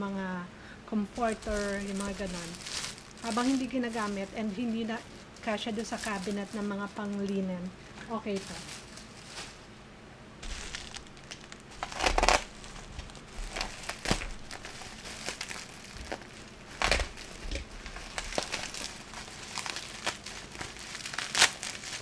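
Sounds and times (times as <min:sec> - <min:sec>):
plastic packaging crinkling: 0:00.6 - 0:09.8, 0:10.4 - 0:22.0.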